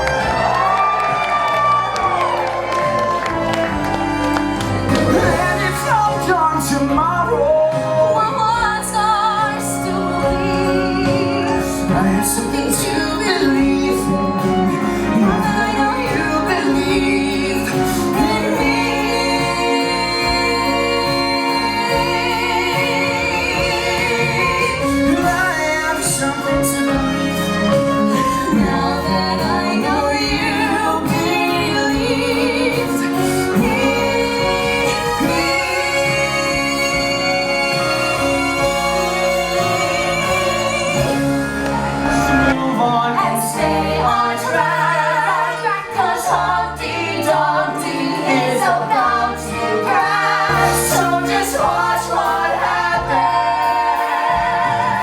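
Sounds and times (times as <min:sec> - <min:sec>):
orchestral accompaniment: 0:00.0 - 0:55.0
woman singing a ballad: 0:05.1 - 0:55.0.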